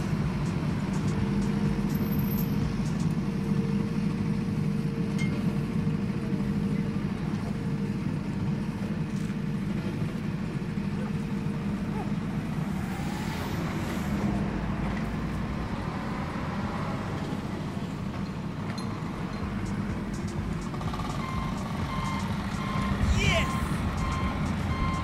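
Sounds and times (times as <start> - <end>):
traffic noise: 0.0 - 25.0
truck engine rumbling: 0.0 - 25.0.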